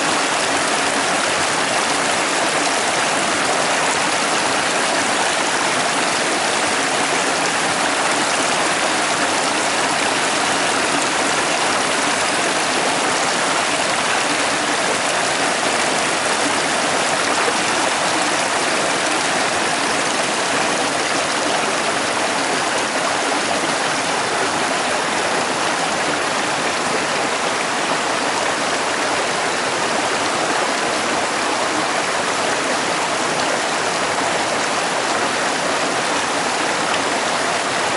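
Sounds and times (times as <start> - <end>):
stream rushing over rocks: 0.0 - 37.9.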